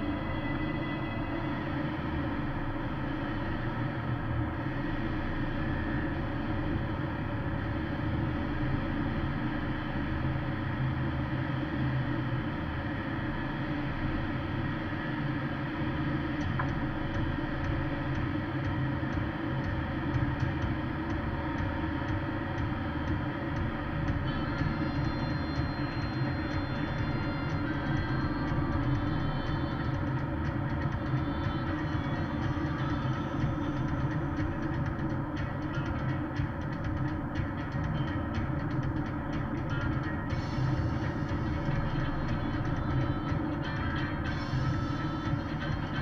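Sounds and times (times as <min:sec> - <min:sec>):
road rumble and engine drone: 0:00.0 - 0:46.0.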